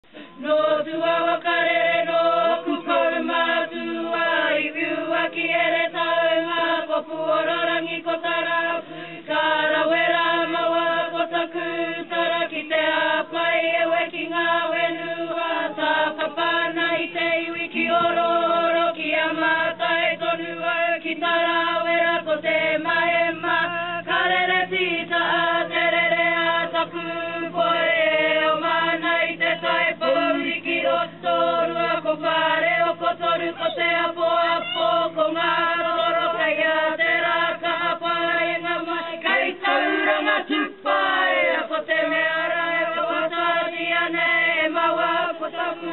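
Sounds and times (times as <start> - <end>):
group singing a chant-like hymn: 0.1 - 45.9.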